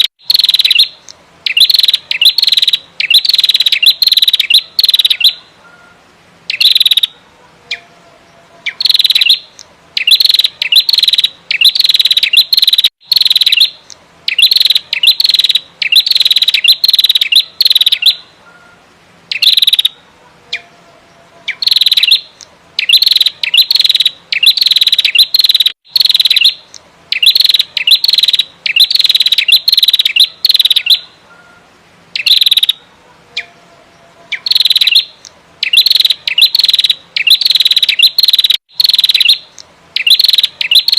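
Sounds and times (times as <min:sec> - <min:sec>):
bird high chattering calls: 0:00.0 - 0:40.9.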